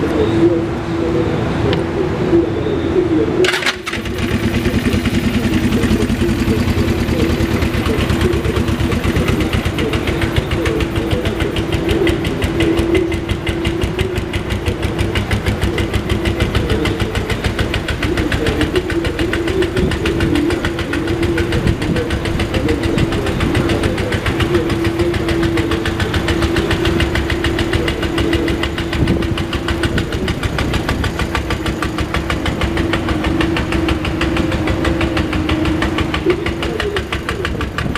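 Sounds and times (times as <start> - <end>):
motorcycle engine idling: 3.4 - 37.9.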